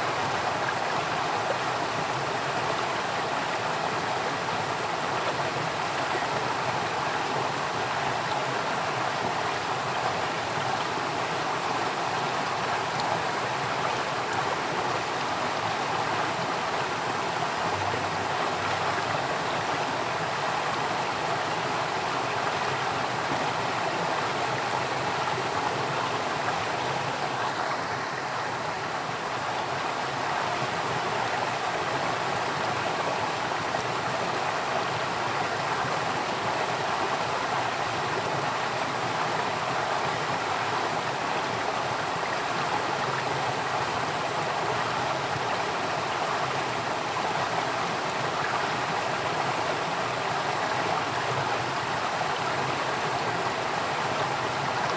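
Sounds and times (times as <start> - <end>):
stream of water flowing: 0.0 - 54.9.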